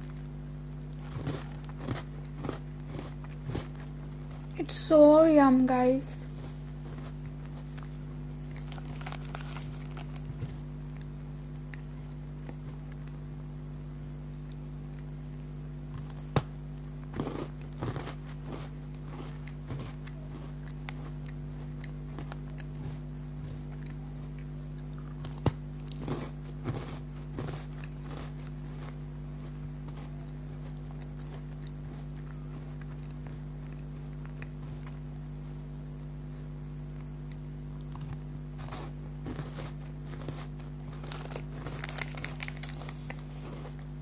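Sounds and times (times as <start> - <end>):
crunchy biscuit chewing: 0.0 - 4.6, 6.2 - 44.0
steady low hum: 0.0 - 44.0.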